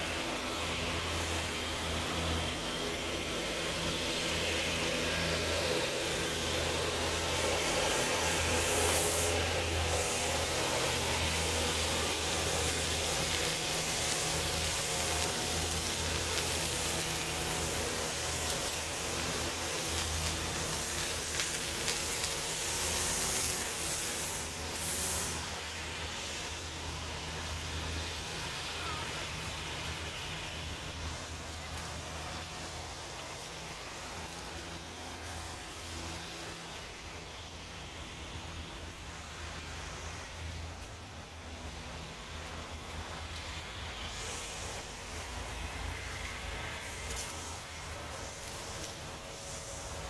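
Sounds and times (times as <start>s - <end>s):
continuous hiss: 0.0s - 50.0s.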